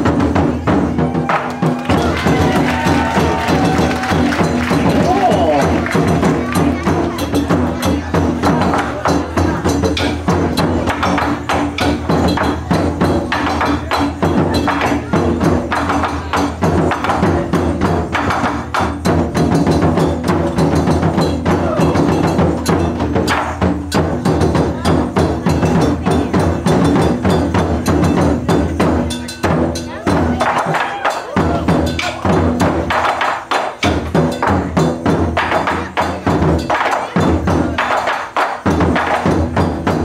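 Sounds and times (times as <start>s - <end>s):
taiko drums booming: 0.0s - 40.0s.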